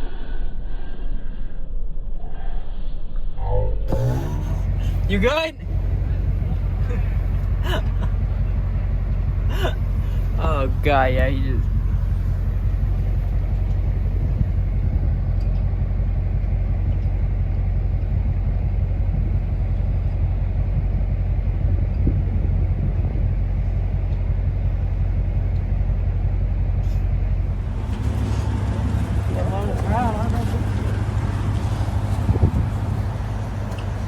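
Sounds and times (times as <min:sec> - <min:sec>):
car engine idling: 0:03.9 - 0:34.0.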